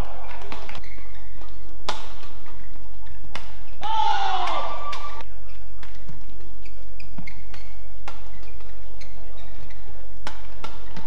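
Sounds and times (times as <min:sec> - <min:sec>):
rackets hitting shuttlecock: 0:00.0 - 0:11.0.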